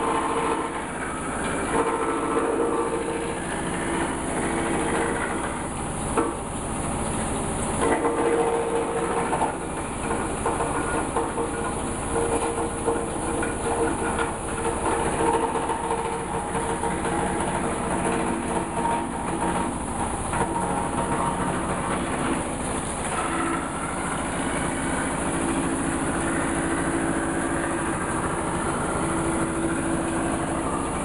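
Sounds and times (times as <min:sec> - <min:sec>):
wood crusher machine running: 0:00.0 - 0:31.0.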